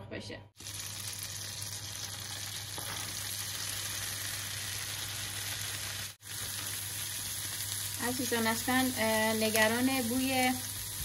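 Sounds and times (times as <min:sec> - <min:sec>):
butter sizzling in frying pan: 0:00.6 - 0:11.0.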